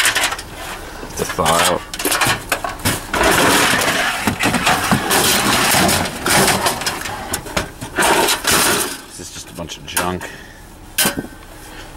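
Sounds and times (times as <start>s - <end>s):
metal junk scraping and rattling: 0.0s - 11.4s.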